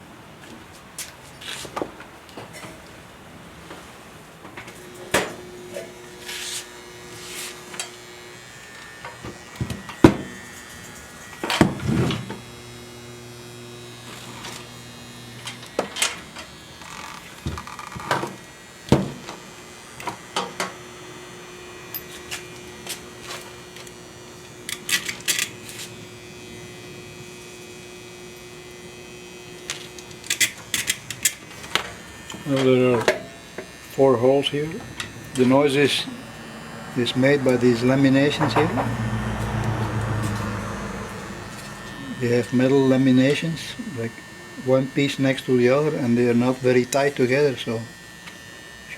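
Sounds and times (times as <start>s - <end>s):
transformer humming and buzzing: 3.6s - 48.9s.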